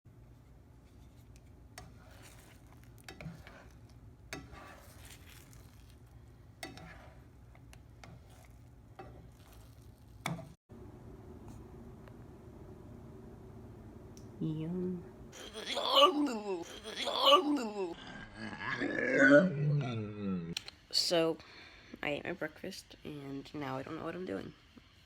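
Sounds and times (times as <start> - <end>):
low steady hum: 0.1 - 25.0.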